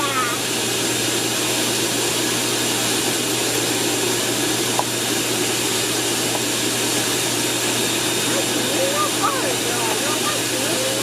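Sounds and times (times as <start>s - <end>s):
air blower rushing: 0.0s - 11.0s.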